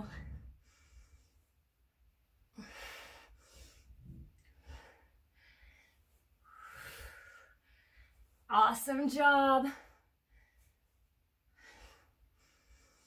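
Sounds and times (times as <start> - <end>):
woman breathing: 0.0 - 1.8, 2.4 - 8.5, 9.7 - 13.0.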